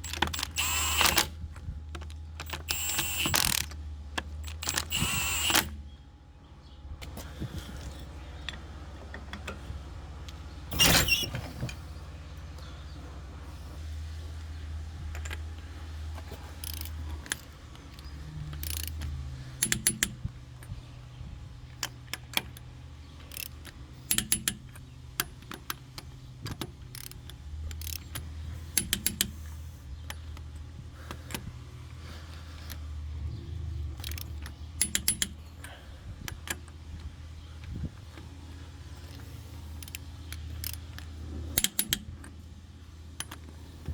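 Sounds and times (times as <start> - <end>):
metallic clicks and rattles: 0.0 - 5.8, 14.5 - 43.9
low steady hum: 0.0 - 43.9.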